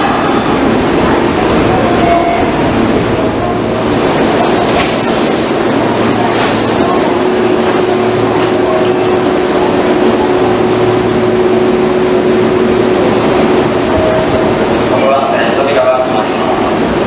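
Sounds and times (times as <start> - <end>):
steady tone: 0.0 - 17.0
train humming: 0.0 - 17.0.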